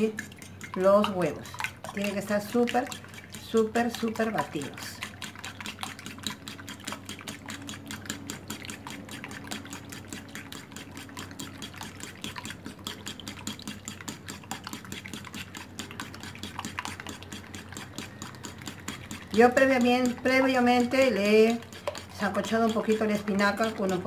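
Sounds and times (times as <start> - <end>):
fork whisking eggs on a plate: 0.0 - 24.0.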